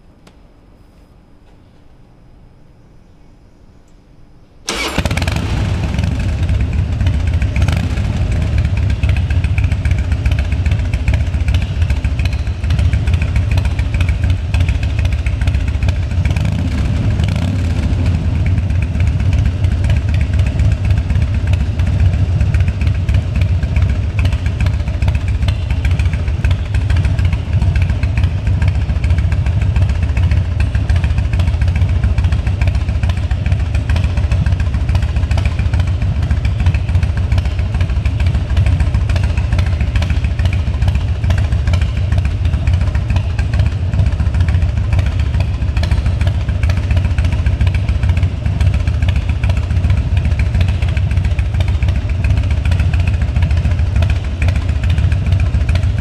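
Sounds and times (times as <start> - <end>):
motorcycle engine running: 4.7 - 56.0.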